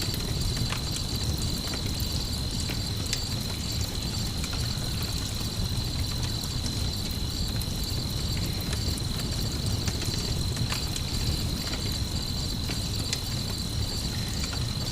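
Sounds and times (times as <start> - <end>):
campfire crackling and popping: 0.0 - 14.9
crickets chirping: 0.0 - 14.9.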